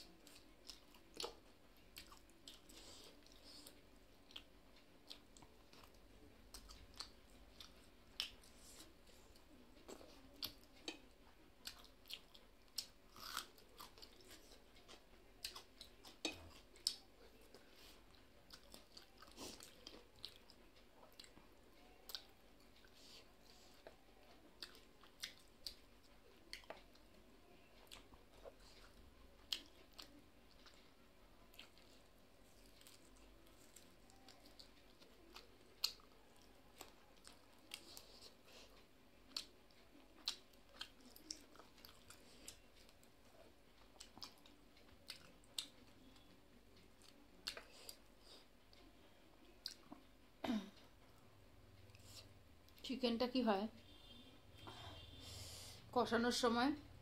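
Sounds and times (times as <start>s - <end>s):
chewing and mouth smacks: 0.2s - 8.9s, 9.8s - 23.0s, 23.7s - 27.2s, 27.8s - 46.2s, 46.8s - 48.9s, 49.6s - 50.1s.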